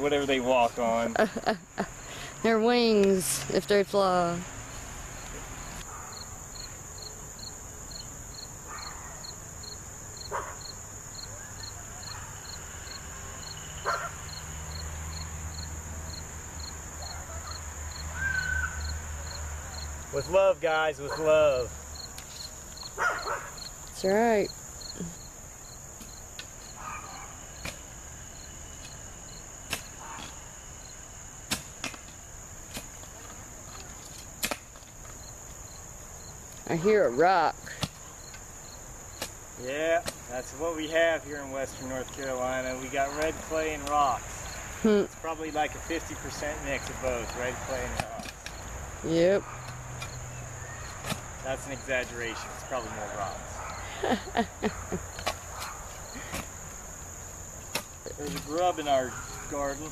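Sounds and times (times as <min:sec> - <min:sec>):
cricket chirping: 0:00.0 - 0:59.9
insects trilling: 0:00.0 - 0:59.9.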